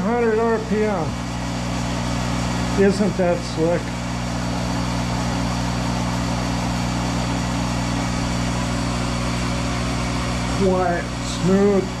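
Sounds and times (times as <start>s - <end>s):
lathe running with steady hum: 0.0s - 12.0s.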